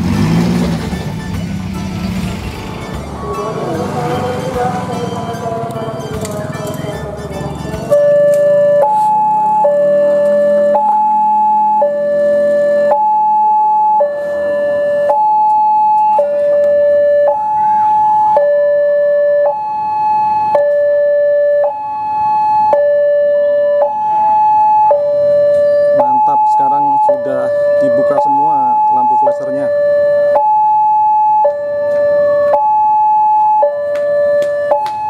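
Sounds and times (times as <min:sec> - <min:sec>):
level crossing two-tone alarm: 0:02.8 - 0:35.0.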